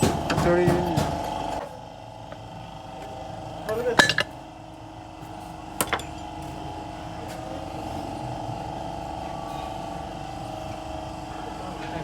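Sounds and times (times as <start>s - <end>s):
mechanical running hum: 0.0s - 12.0s.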